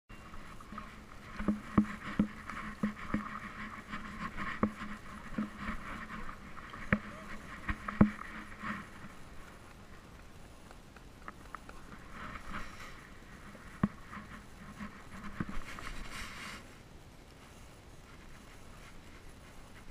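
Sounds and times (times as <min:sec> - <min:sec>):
rustling: 0:00.1 - 0:19.9.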